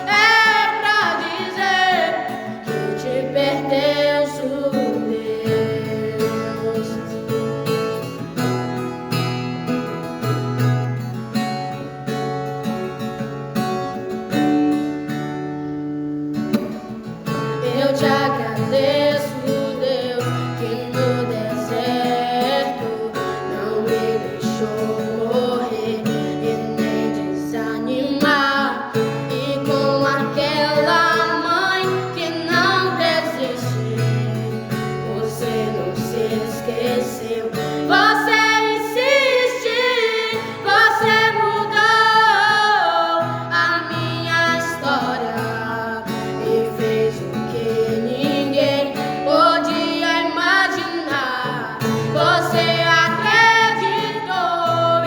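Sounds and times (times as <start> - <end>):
voices singing worship song: 0.0 - 8.1, 17.5 - 55.0
acoustic guitar: 0.0 - 55.0.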